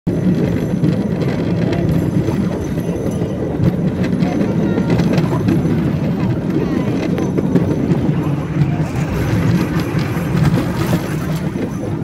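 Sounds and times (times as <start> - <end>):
platform and wheels rattling on track: 0.1 - 12.0.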